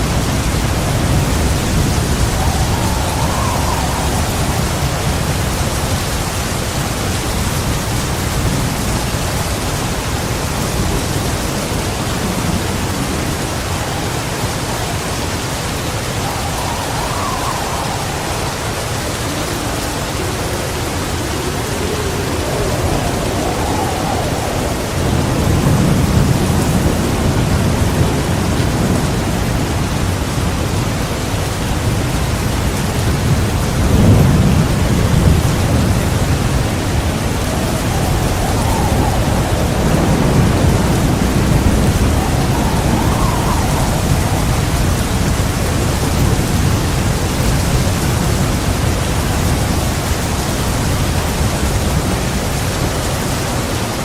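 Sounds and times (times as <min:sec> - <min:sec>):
rolling thunder: 0:00.0 - 0:53.9
heavy rain falling: 0:00.0 - 0:54.0.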